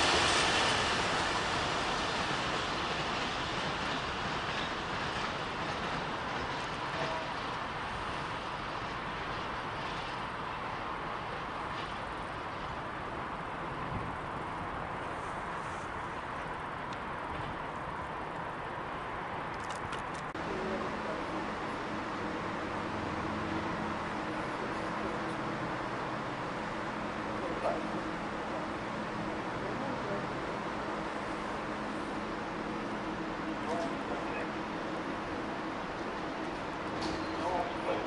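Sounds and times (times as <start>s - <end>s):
freight train rumble: 0.0s - 38.0s.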